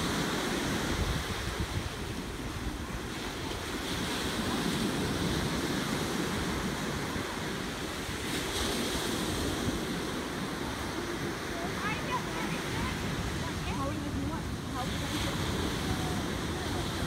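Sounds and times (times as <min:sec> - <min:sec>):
surf breaking on rocks: 0:00.0 - 0:17.0
wind buffeting microphone: 0:00.0 - 0:17.0.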